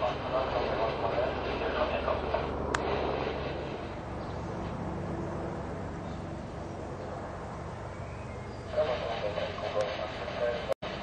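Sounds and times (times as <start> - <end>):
airship propeller engines droning: 0.0 - 11.0.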